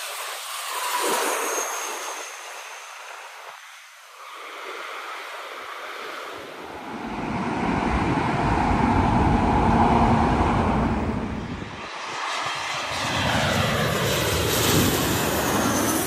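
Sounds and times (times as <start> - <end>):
highway traffic hiss: 0.0 - 12.9
low-flying jet airliner: 0.0 - 16.0.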